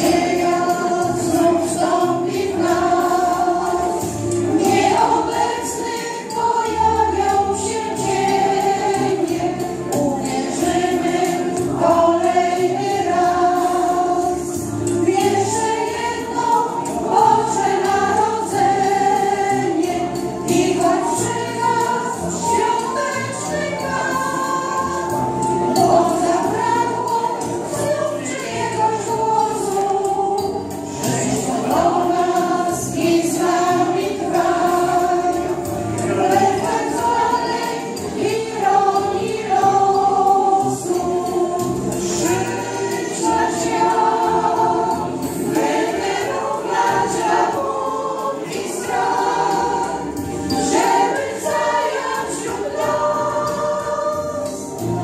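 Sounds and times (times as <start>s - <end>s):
women's choir singing carol: 0.0s - 55.0s.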